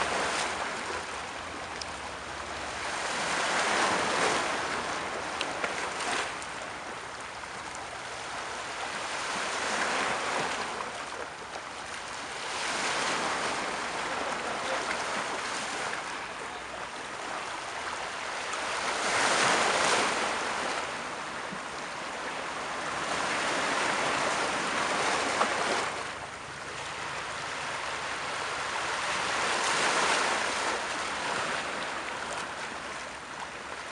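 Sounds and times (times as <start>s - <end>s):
sea waves breaking: 0.0s - 33.9s.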